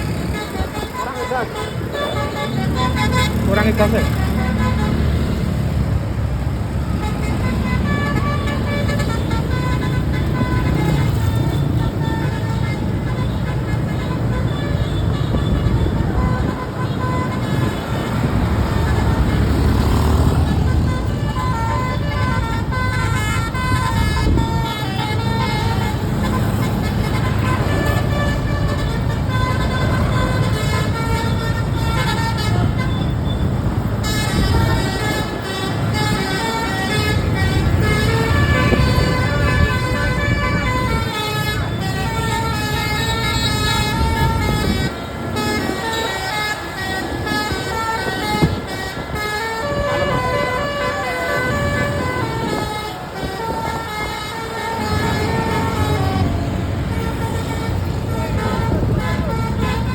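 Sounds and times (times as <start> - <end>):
engine and road rumble: 0.0 - 59.9
musical bus air horn: 0.0 - 59.9.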